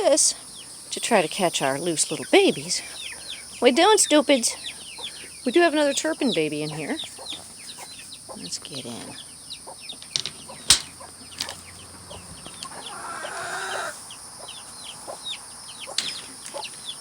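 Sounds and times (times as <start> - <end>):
chickens clucking: 0.0 - 17.0
chicks peeping: 0.0 - 17.0.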